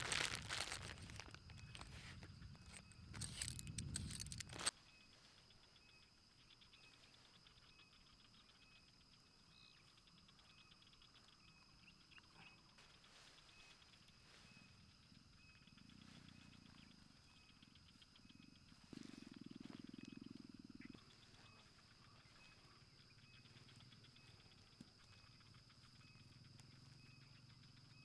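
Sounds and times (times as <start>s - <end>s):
faint repeated chirping: 0.0s - 28.0s.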